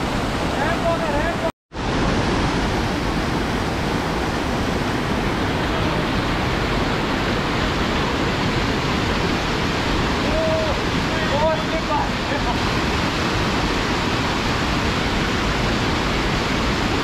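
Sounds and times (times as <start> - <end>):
rushing mountain water: 0.0 - 17.0.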